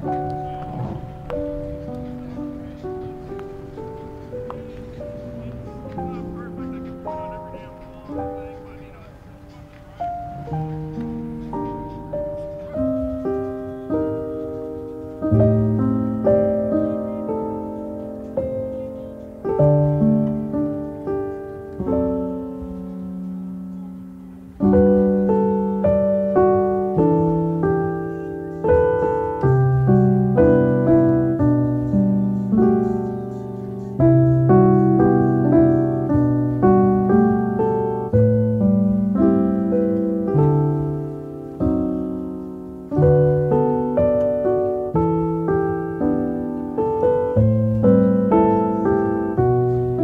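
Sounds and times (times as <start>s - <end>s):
piano run of notes: 0.0s - 50.0s
slow piano chords: 0.0s - 50.0s.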